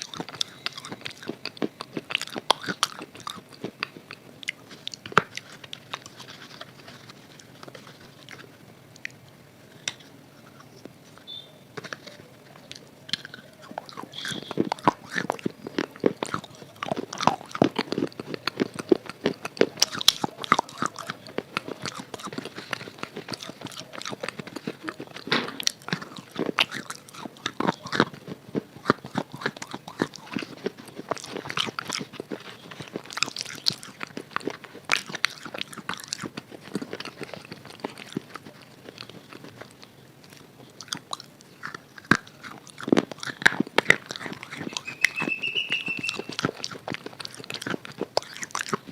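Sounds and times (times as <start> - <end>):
crunching and chewing chalk: 0.0 - 48.9.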